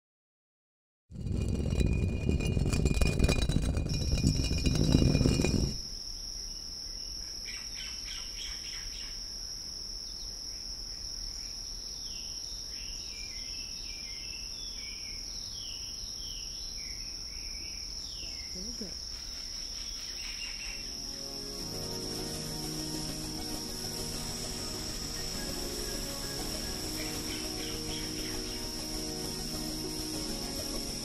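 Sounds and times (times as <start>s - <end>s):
high insect drone: 5.4s - 31.0s.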